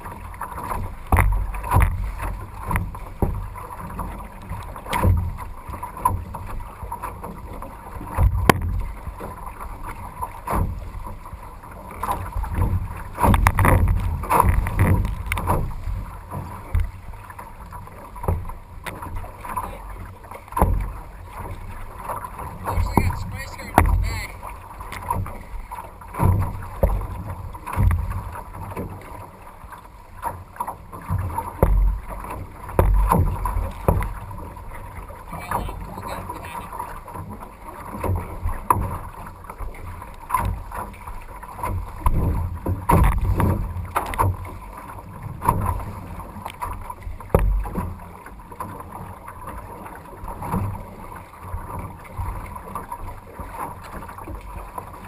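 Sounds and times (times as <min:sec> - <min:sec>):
paddle strokes splashing: 0:00.0 - 0:55.0
waves against hull: 0:00.0 - 0:55.0.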